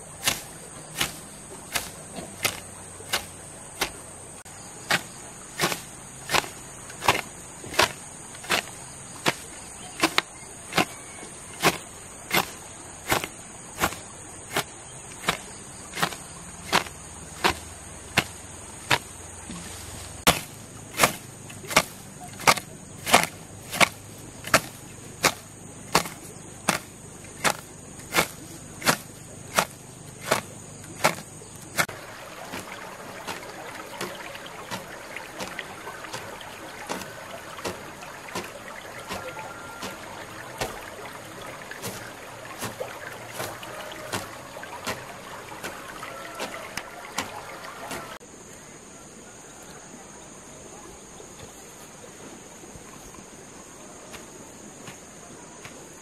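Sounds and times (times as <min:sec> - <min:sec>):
high insect trill: 0:00.0 - 0:56.0
hoe chopping into soil: 0:00.2 - 0:04.0, 0:04.8 - 0:48.2.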